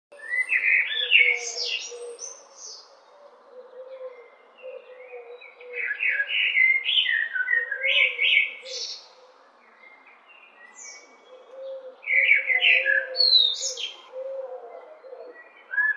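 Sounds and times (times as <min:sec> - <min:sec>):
blackbird singing: 0:00.1 - 0:15.9.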